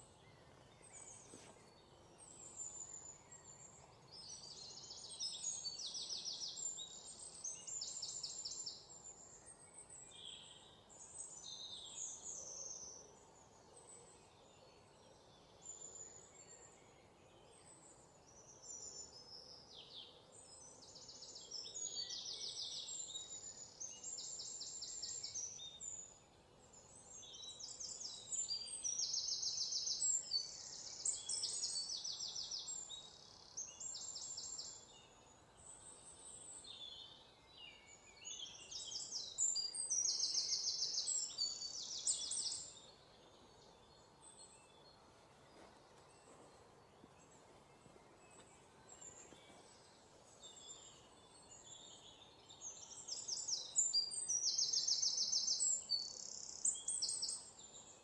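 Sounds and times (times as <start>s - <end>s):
faint outdoor hiss: 0.0s - 58.0s
wild birds trilling and chirping: 0.0s - 58.0s.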